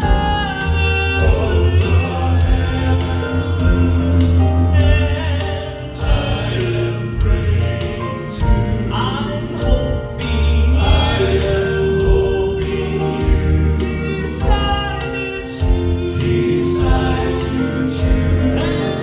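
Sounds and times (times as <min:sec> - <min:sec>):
male quartet singing in harmony: 0:00.0 - 0:19.0
pulsing bass accompaniment: 0:00.0 - 0:19.0.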